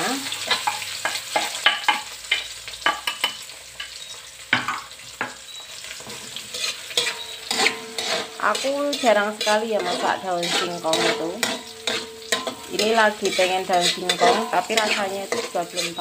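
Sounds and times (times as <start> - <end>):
food sizzling in hot oil: 0.0 - 16.0
metal spatula scraping a wok: 0.2 - 4.1, 5.9 - 16.0.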